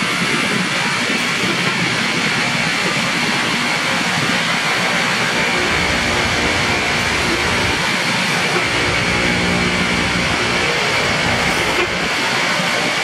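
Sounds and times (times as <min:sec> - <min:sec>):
rail grinder grinding: 0:00.0 - 0:13.0.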